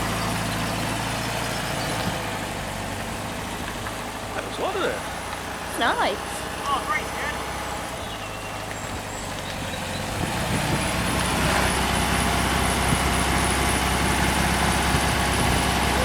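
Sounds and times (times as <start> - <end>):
air-cooled car engine running: 0.0 - 16.0.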